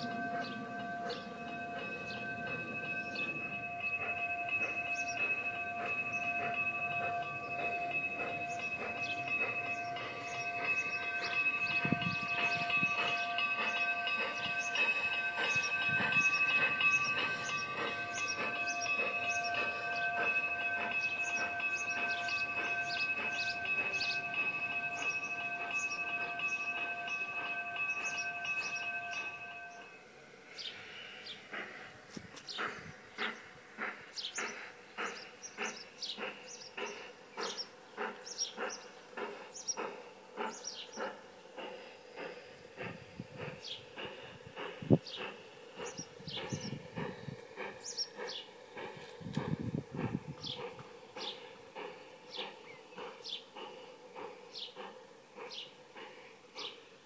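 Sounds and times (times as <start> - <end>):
birds chirping: 0.0 - 49.0, 50.0 - 55.8
model steam train running: 0.0 - 57.0.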